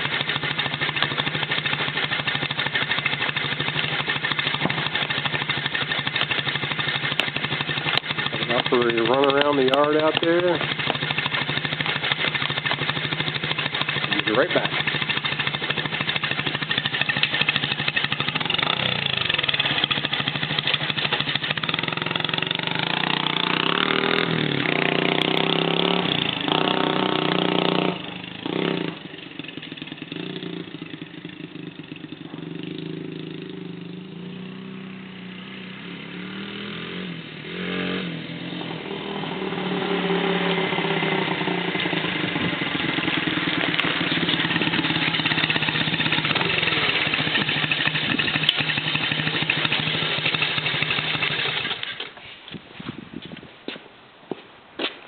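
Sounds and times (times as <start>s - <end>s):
motorbike engine revving: 0.0s - 52.2s.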